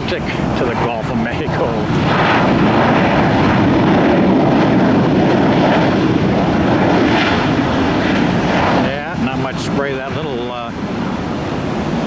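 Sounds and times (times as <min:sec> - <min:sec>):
jet airliner engine noise: 0:00.0 - 0:12.0.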